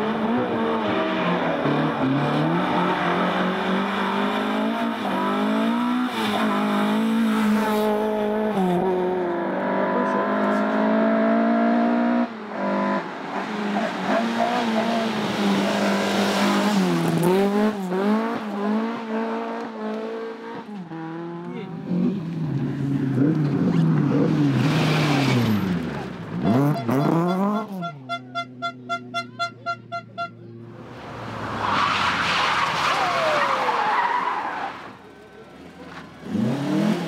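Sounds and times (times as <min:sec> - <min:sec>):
car engine revving: 0:00.0 - 0:28.0, 0:30.7 - 0:37.0.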